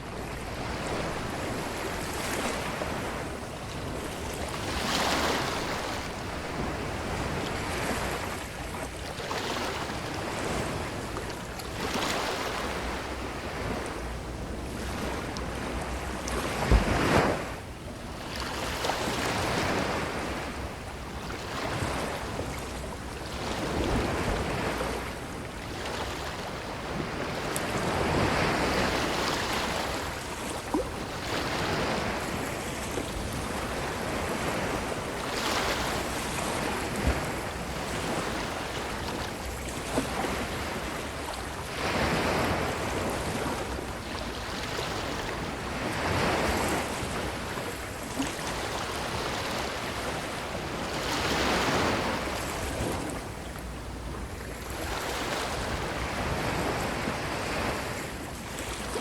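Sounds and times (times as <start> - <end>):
ocean waves washing on shore: 0.0 - 59.0.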